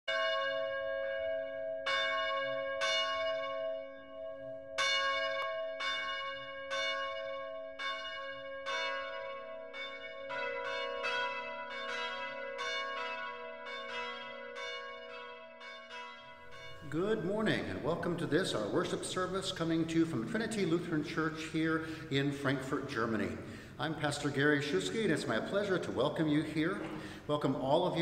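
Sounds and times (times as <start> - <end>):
church bells ringing: 0.1 - 28.0.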